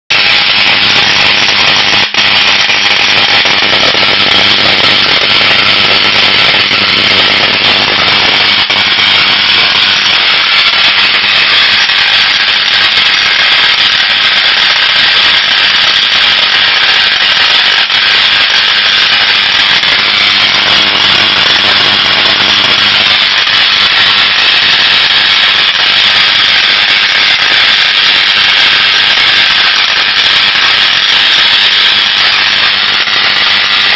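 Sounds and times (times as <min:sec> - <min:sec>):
tesla coil buzzing crackle: 0:00.1 - 0:33.9.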